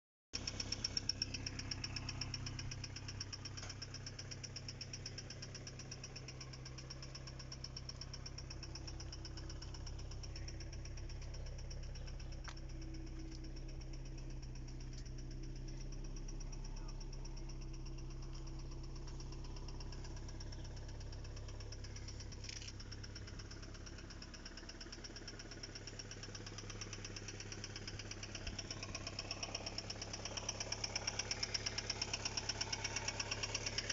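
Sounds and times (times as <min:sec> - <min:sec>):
car engine idling with knock: 0:00.4 - 0:33.9.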